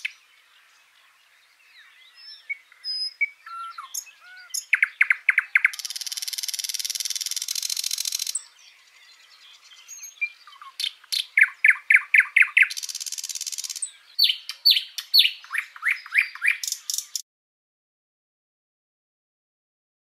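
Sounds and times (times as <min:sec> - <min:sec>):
songbird singing: 0:00.0 - 0:17.2.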